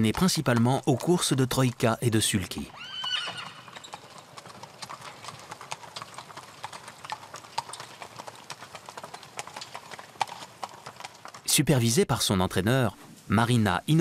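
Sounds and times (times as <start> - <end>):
horse hooves clip-clopping: 0.0 - 11.6.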